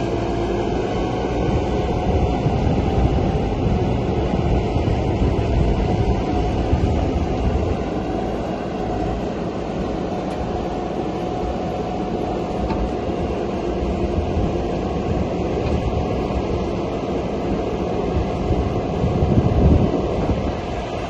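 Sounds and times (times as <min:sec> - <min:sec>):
loader engine rumbling: 0:00.0 - 0:21.0.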